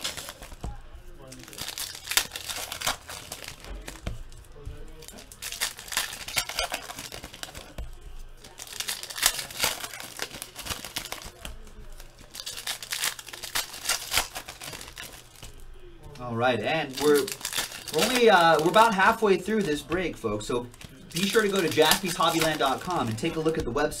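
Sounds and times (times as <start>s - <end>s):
wrappers crinkling and tearing: 0.0s - 23.9s.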